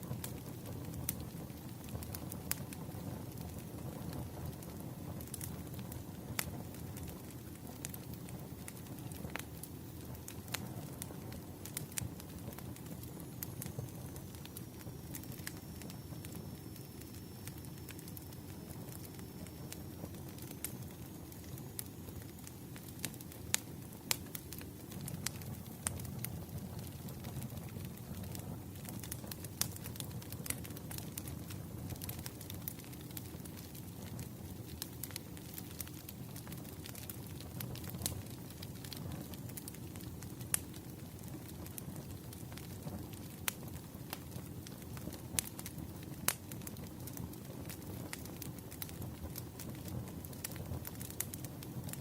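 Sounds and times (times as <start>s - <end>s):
rumble of campfire flames: 0.0s - 52.0s
wood fire crackling: 0.0s - 52.0s.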